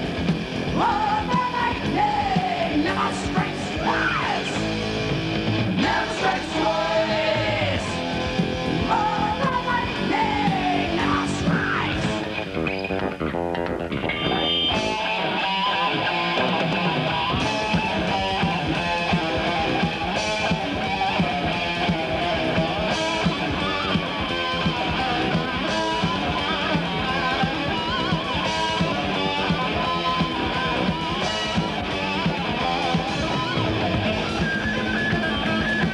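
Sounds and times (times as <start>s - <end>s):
heavy metal band playing: 0.0s - 35.9s.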